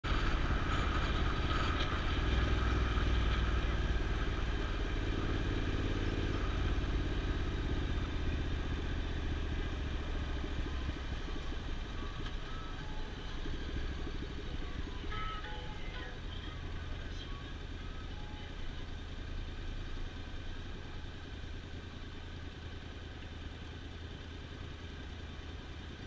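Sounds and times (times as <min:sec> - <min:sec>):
vehicle road noise: 0:00.0 - 0:26.0.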